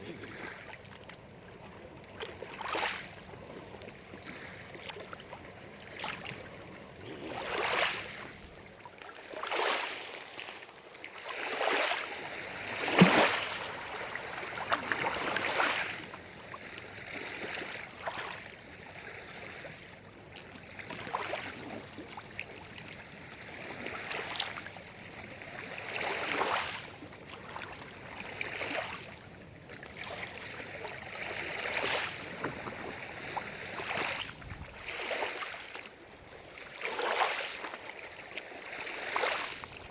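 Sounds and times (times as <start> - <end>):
lake water lapping and splashing: 0.0 - 39.9.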